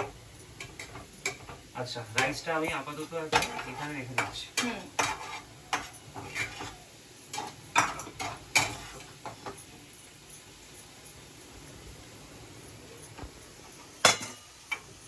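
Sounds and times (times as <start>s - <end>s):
metal utensils clinking on pot: 0.0s - 11.2s, 12.9s - 15.0s.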